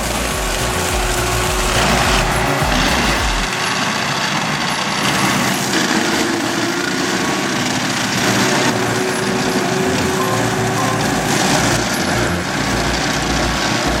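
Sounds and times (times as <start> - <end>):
tractor mulcher running: 0.0 - 14.0.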